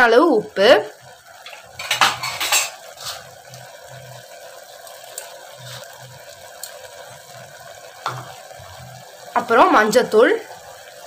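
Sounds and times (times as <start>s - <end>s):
pressure cooker simmering hiss: 0.0s - 11.0s.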